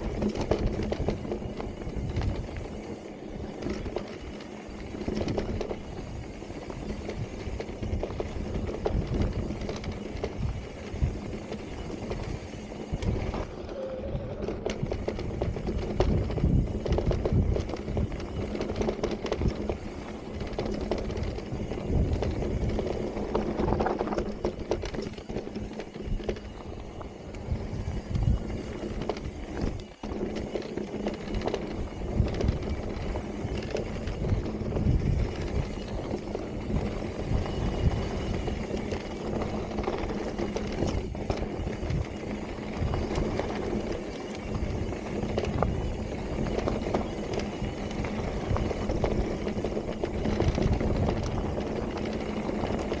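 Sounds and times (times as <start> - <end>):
bike rattling and knocking: 0.0 - 53.0.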